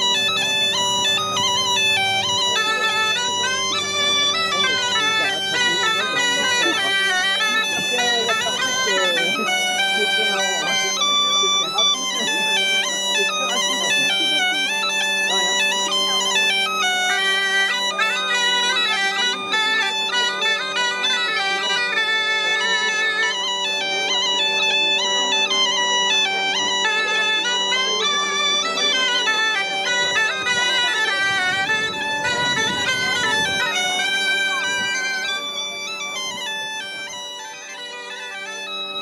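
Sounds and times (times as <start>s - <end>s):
bagpipes playing a dance tune: 0.0s - 39.0s.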